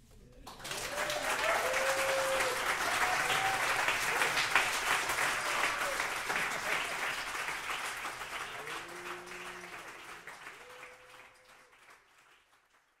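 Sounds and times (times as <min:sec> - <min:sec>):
audience applauding: 0:00.4 - 0:13.0.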